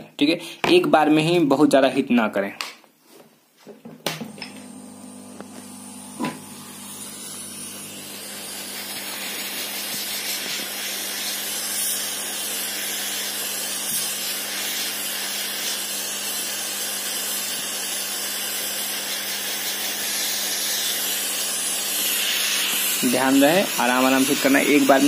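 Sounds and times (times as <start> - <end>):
hot air gun hissing: 4.5 - 25.0.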